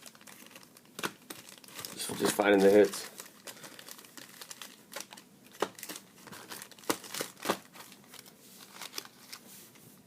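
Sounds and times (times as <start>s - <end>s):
card wrappers crinkling: 0.0s - 9.5s.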